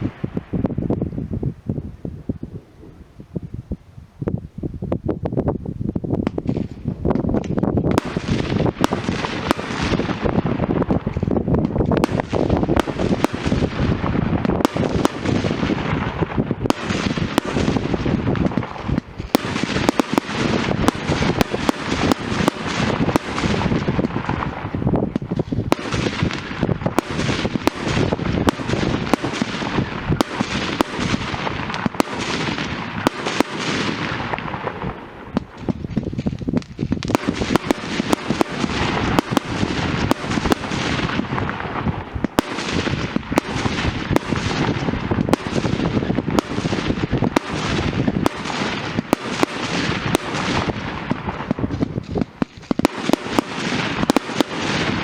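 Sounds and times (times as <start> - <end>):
fireworks crackling and bangs: 0.0 - 1.7, 5.2 - 55.0.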